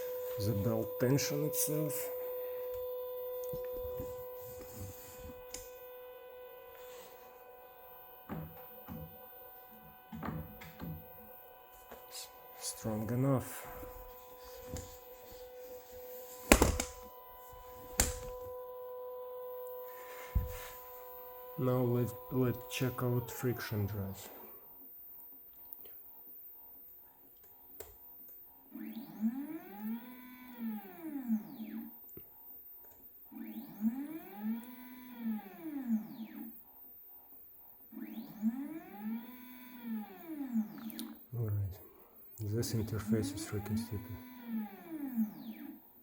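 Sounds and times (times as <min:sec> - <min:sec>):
stepper motor whining: 0:00.0 - 0:24.5, 0:28.8 - 0:31.9, 0:33.3 - 0:36.5, 0:37.9 - 0:41.1, 0:42.7 - 0:45.8.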